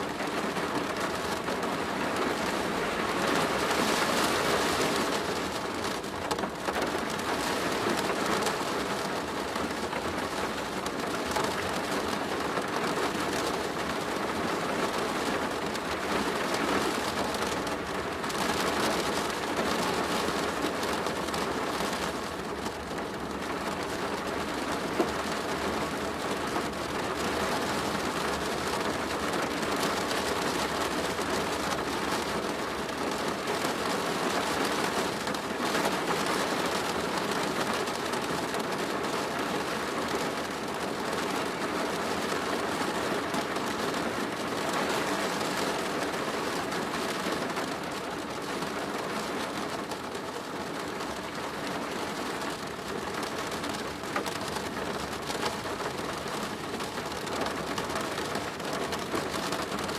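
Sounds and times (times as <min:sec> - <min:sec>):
rain on a plastic roof: 0:00.0 - 0:59.9.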